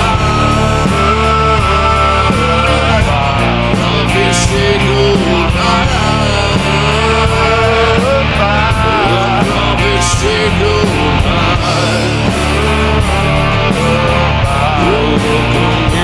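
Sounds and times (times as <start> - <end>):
electric guitar: 0.0 - 16.0
rock band playing: 0.0 - 16.0.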